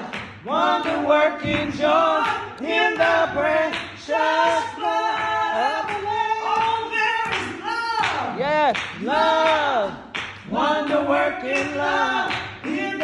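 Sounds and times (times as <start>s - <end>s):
woman singing a gospel hymn: 0.0s - 8.4s, 9.0s - 13.0s.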